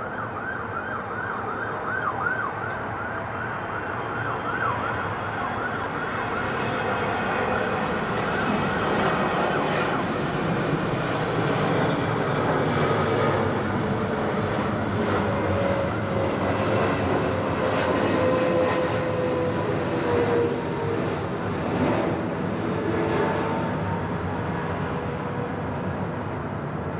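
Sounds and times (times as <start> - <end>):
emergency siren wailing: 0.0 - 26.9
jet engines roaring overhead: 0.0 - 26.9.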